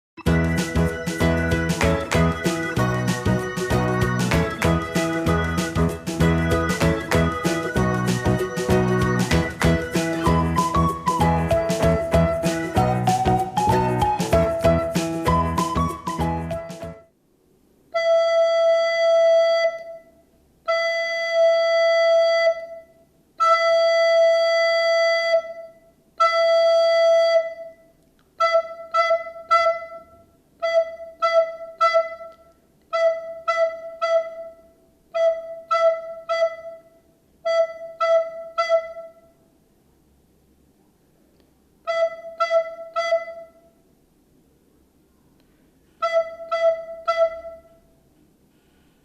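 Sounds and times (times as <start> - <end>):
soprano recorder notes: 0.2 - 17.1, 17.9 - 39.3, 41.8 - 43.7, 46.0 - 47.9.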